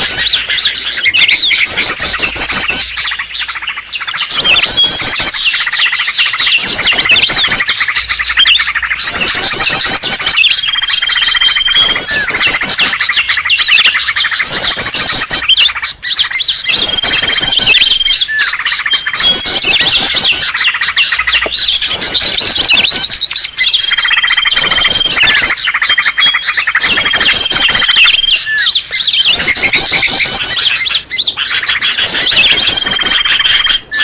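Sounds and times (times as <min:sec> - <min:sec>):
birds chirping and whistling: 0:00.0 - 0:34.0.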